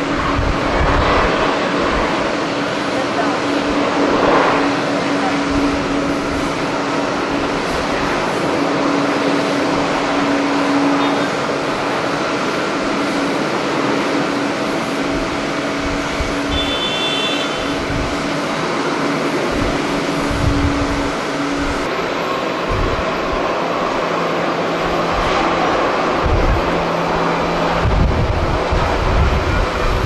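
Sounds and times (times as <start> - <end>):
jet engine drone: 0.0 - 30.0
wind gusting on microphone: 0.0 - 30.0.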